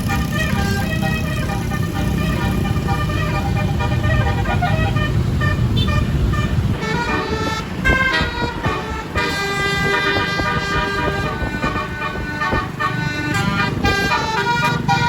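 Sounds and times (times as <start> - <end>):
bus engine rumble: 0.0 - 15.0
multi-tone bus horn tune: 0.0 - 15.0
traffic: 0.0 - 15.0.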